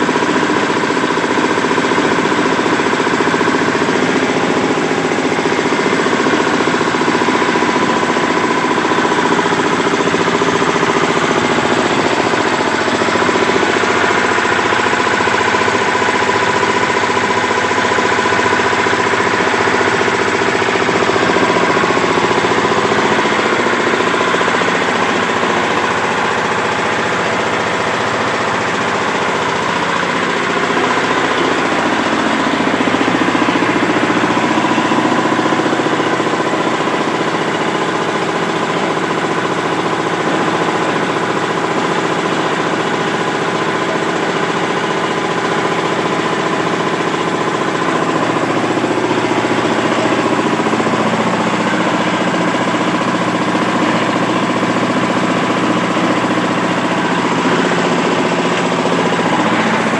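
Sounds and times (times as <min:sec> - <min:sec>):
diesel engine running steadily: 0:00.0 - 0:59.9.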